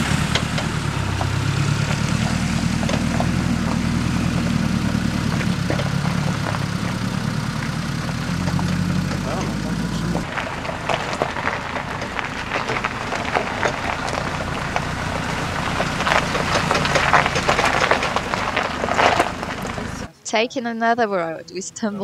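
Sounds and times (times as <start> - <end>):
tyres crunching on gravel: 0.0 - 20.1
vehicle clunking knocks: 0.0 - 20.1.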